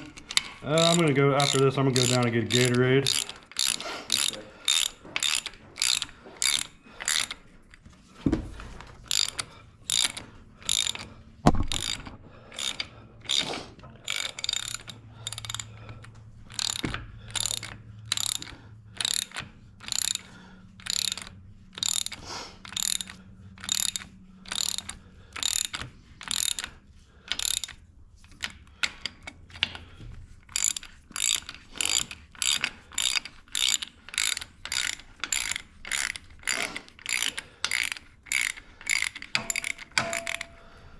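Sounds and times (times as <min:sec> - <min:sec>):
ratchet wrench clicking: 0:00.0 - 0:07.4, 0:09.1 - 0:29.8, 0:30.4 - 0:40.8.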